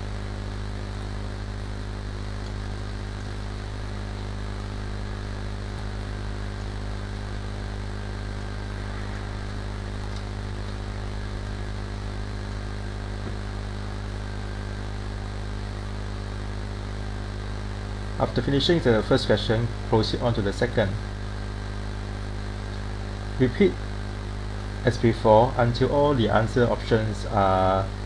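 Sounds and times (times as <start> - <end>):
low electrical hum: 0.0 - 28.0
steady hiss: 0.0 - 28.0.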